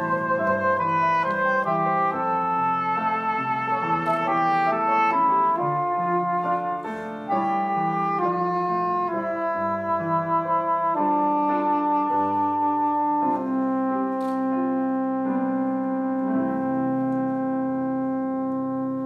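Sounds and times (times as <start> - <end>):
piano accompaniment: 0.0 - 19.0
soprano saxophone melody: 0.0 - 19.0.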